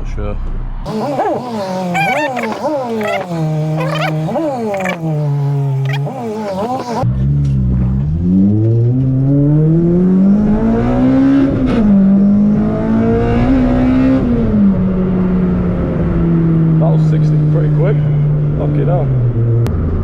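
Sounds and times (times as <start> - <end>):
car engine accelerating hard: 0.8 - 20.0.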